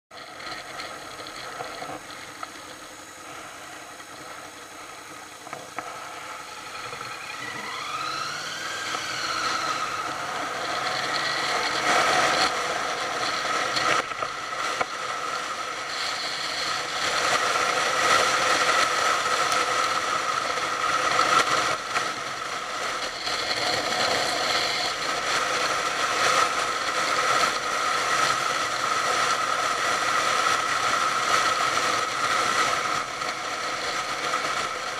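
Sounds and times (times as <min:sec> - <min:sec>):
motorcycle engine: 0:00.1 - 0:34.9
wind and road noise: 0:00.1 - 0:34.9.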